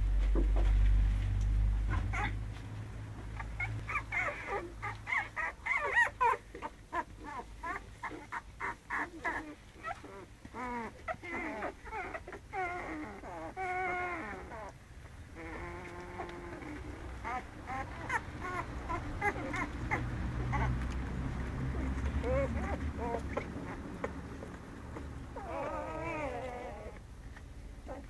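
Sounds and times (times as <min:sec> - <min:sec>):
puppies whimpering and squeaking: 0:01.8 - 0:02.6, 0:03.2 - 0:28.0
puppy whines: 0:01.9 - 0:02.5, 0:03.3 - 0:21.0, 0:21.7 - 0:27.1, 0:27.8 - 0:28.0.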